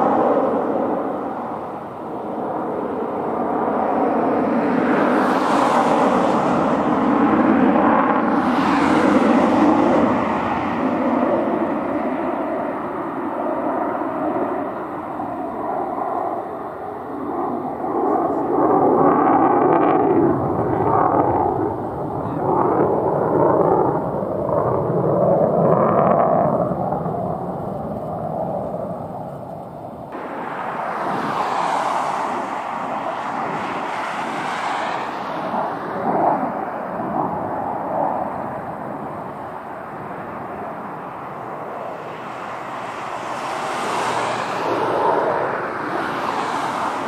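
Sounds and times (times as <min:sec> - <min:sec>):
jet rushing rumble: 0:00.0 - 0:47.0.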